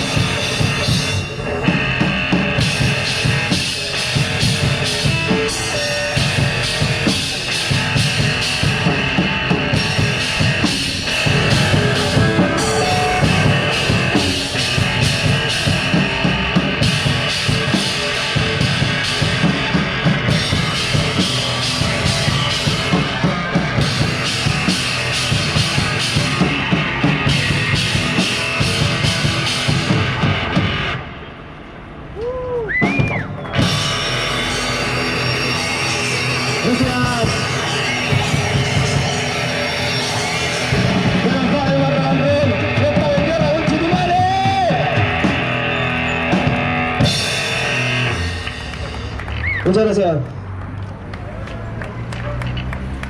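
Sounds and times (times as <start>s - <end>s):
drum kit pounding: 0.0s - 31.0s, 32.8s - 49.7s
live rock band playing: 0.0s - 31.2s, 32.9s - 49.8s.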